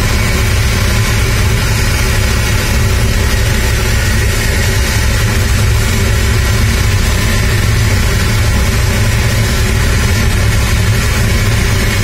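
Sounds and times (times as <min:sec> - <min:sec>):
tug engine rumbling: 0:00.0 - 0:12.0.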